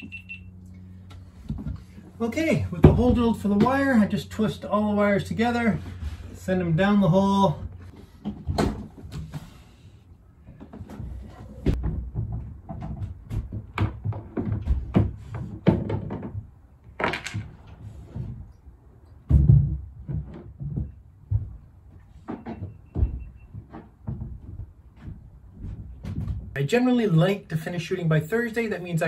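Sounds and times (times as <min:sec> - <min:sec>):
knocks clunks and rattles: 0:01.1 - 0:09.8, 0:10.4 - 0:26.6.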